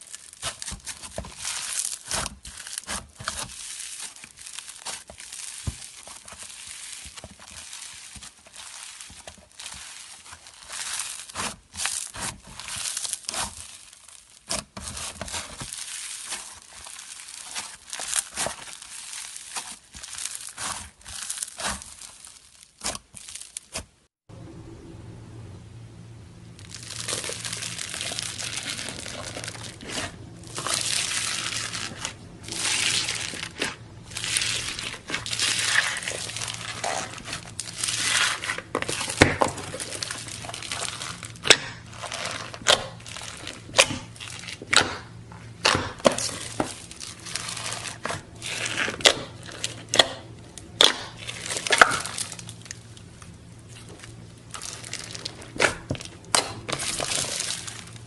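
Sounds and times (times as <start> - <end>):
crunchy slime squeezed: 0.0 - 24.0, 26.6 - 58.0.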